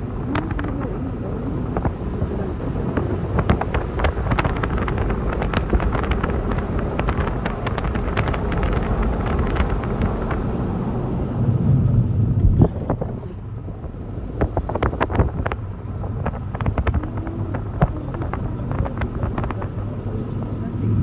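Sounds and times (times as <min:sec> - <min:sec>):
car rumbling on dirt road: 0:00.0 - 0:21.0
wind buffeting microphone: 0:00.0 - 0:21.0.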